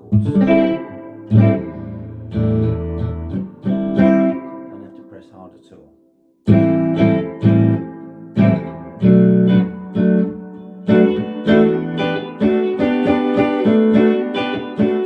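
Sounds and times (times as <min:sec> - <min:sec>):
electric guitar strumming chords: 0:00.0 - 0:05.4, 0:06.5 - 0:15.0.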